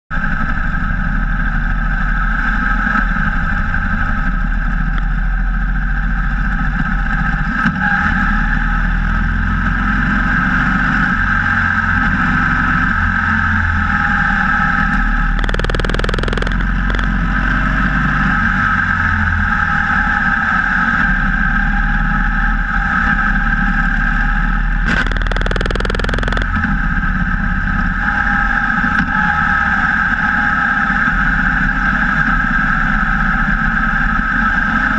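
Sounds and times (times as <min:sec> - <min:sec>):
wind and road noise: 0:00.1 - 0:34.9
motorcycle engine hum: 0:00.2 - 0:34.9.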